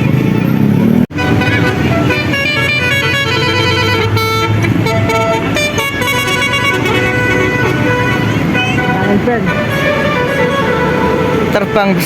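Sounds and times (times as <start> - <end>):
engine running: 0.0 - 12.0
musical air horn melody: 1.1 - 12.0.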